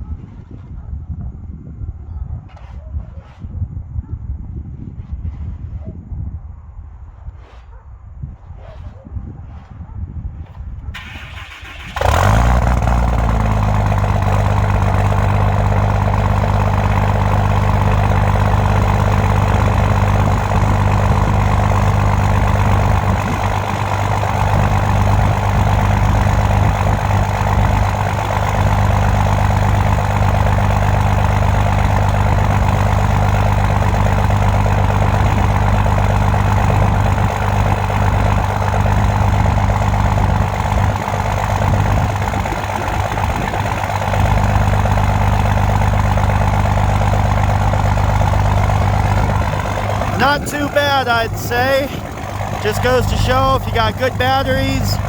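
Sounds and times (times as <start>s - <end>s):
diesel engine starting and idling: 10.8s - 55.0s.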